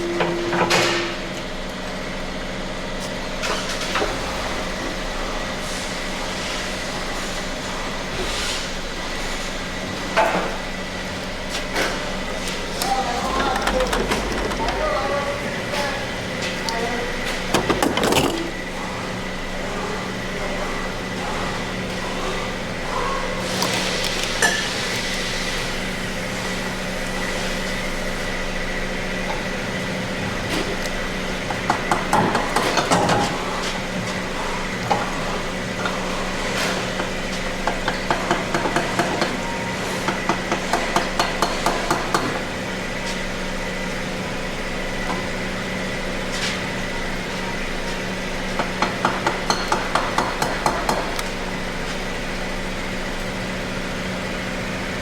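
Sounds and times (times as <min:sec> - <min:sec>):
steady shop hum: 0:00.0 - 0:55.0.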